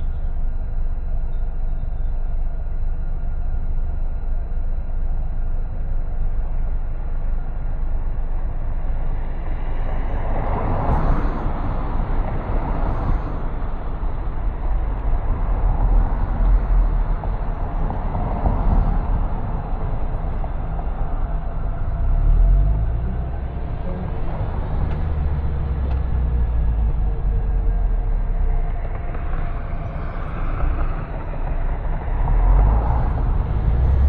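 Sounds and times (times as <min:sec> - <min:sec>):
car road rumble and tyre noise: 0:00.0 - 0:34.0.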